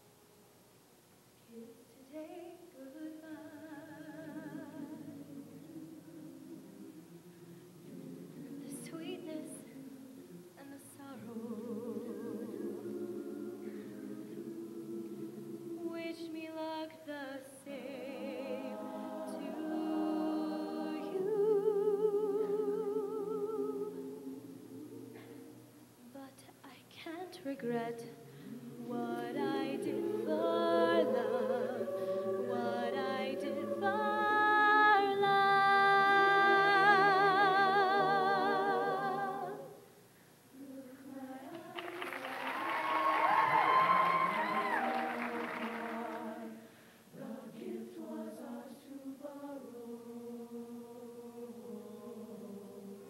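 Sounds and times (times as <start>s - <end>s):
choir singing a cappella: 1.5s - 26.3s, 27.0s - 53.0s.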